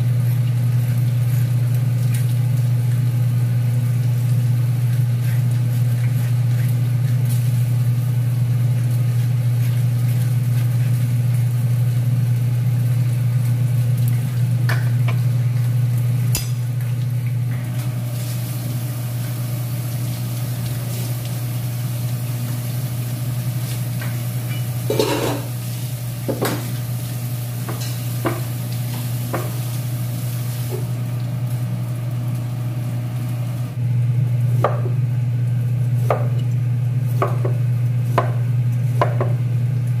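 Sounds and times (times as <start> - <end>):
tap water running: 0.0 - 33.8, 34.4 - 40.0
low machine hum: 0.0 - 40.0.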